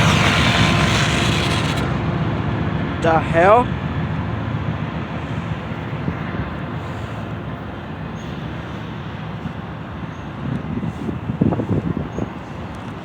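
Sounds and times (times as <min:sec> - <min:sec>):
passing vehicles: 0:00.0 - 0:13.0
wind buffeting microphone: 0:00.0 - 0:13.0.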